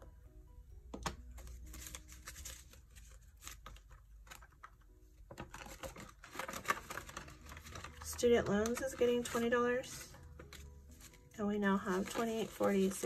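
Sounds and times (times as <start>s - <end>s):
banknotes rustling: 1.3s - 13.0s.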